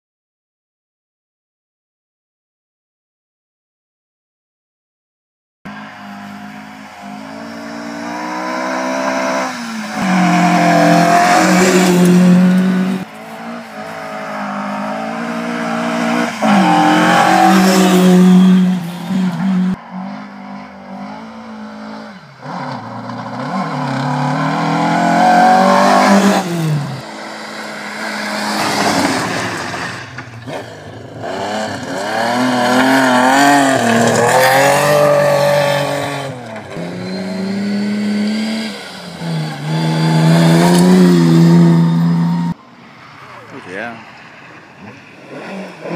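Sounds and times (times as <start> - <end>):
rally car engines revving: 5.7 - 45.9.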